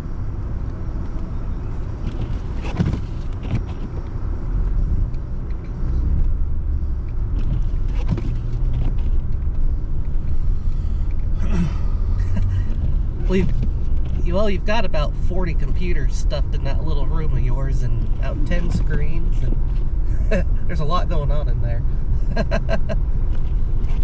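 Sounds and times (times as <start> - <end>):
car road noise rumble: 0.0 - 24.0.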